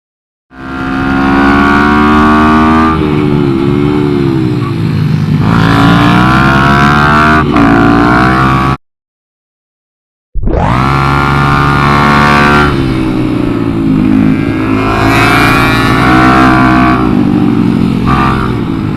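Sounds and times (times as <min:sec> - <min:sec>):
minibike engine revving: 0:00.6 - 0:08.8, 0:10.5 - 0:18.9.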